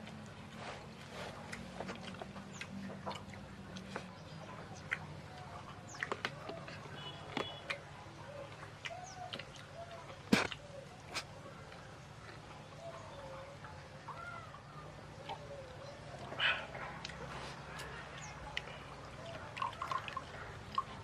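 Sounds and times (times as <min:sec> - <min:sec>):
birds calling: 0:00.5 - 0:21.0.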